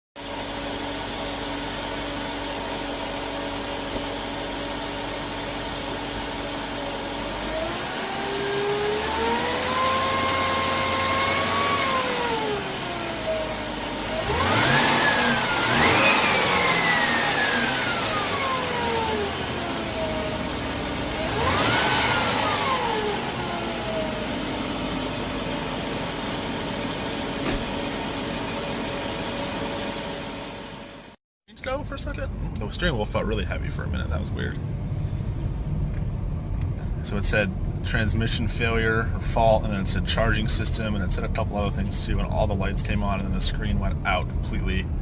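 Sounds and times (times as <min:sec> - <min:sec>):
car engine idling and accelerating: 0:00.2 - 0:45.0.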